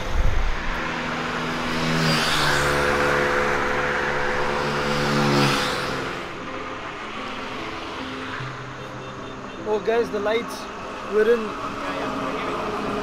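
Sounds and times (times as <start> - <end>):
vehicle passing on highway: 0.0 - 13.0.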